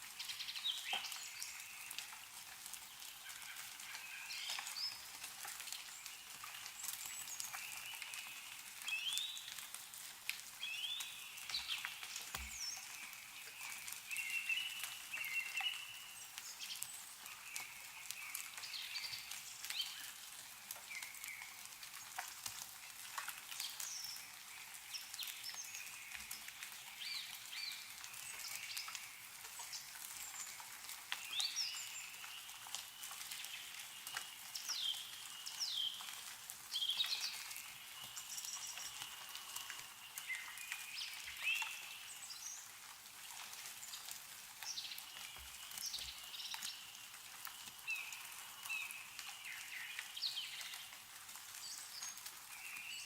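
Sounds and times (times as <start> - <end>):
meltwater dripping from trees: 0.0 - 53.0
small birds chirping: 0.1 - 53.0.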